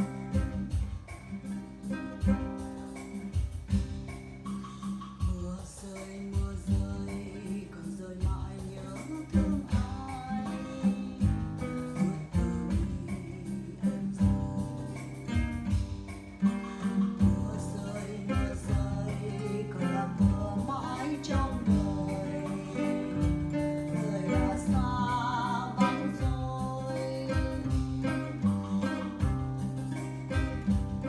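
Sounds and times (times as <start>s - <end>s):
bass and beat: 0.0s - 31.0s
guitar: 0.0s - 31.0s.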